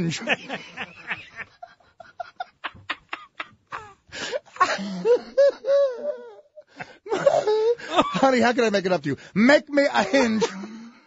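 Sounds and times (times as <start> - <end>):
men laughing: 0.0 - 8.4, 10.0 - 10.8.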